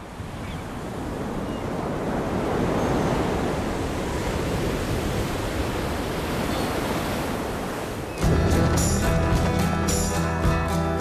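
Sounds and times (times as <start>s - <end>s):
ocean surf washing onto beach: 0.0s - 10.8s.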